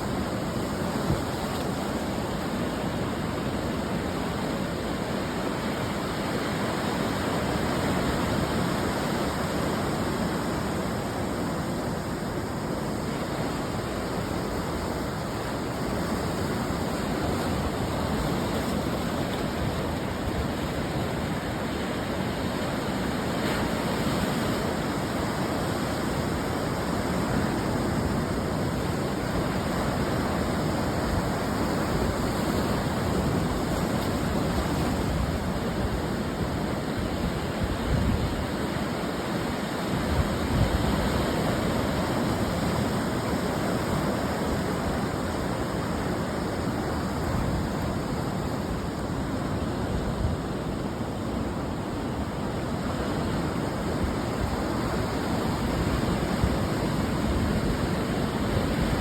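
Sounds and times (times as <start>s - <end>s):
ocean surf washing on shore: 0.0s - 59.0s.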